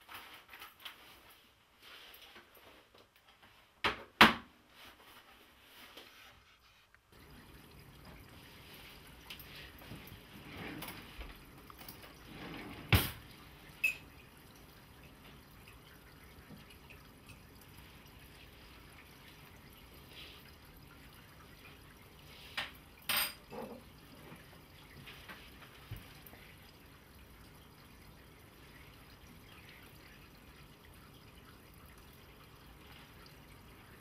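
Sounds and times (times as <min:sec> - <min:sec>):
faint liquid sounds: 0:04.7 - 0:34.0.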